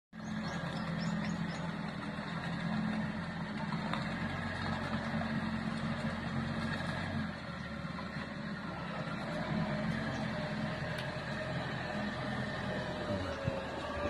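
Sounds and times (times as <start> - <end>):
tractor engine running under load: 0.2 - 14.0.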